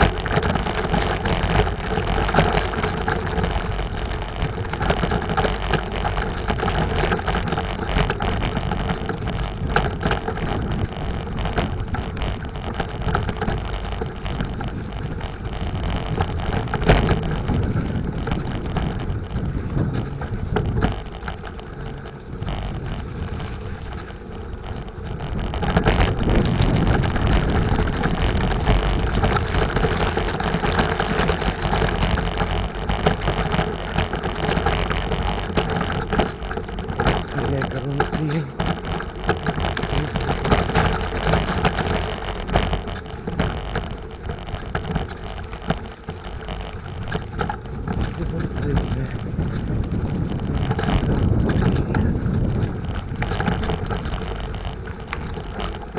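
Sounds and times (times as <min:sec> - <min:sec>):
rolling road noise: 0:00.0 - 0:55.9
wind buffeting microphone: 0:00.0 - 0:55.9.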